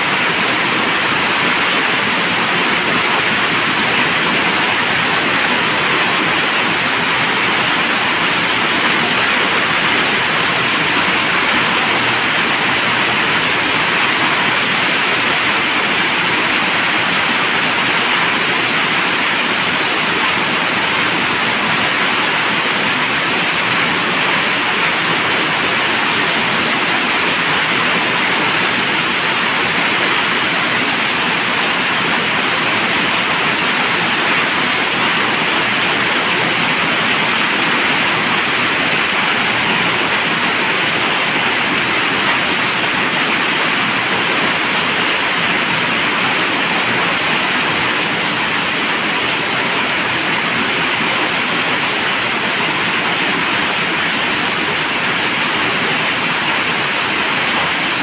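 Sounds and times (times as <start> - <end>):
heavy rain on corrugated roof: 0.0 - 58.0.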